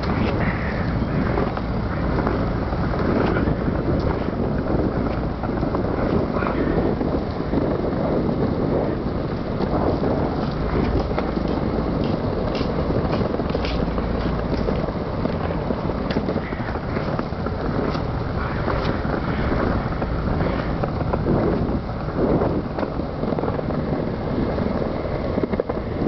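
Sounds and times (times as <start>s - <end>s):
skateboard wheels rolling on pavement: 0.0s - 26.0s
wind buffeting microphone: 0.0s - 26.0s.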